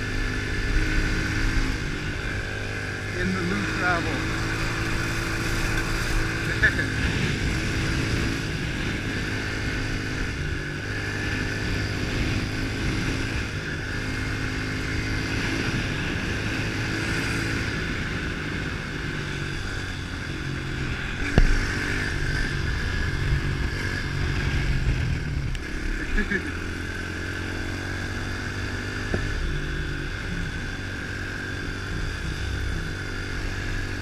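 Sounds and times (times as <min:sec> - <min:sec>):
motorbike engine running: 0:00.0 - 0:34.0.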